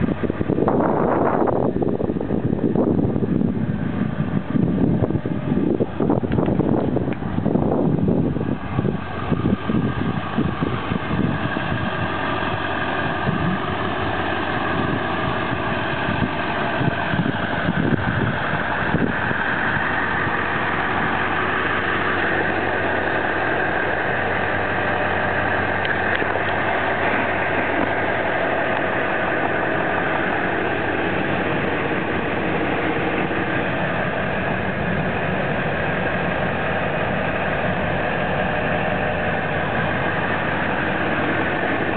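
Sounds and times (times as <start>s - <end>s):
diesel truck engine idling: 0.0s - 41.9s
wind buffeting microphone: 0.0s - 41.9s.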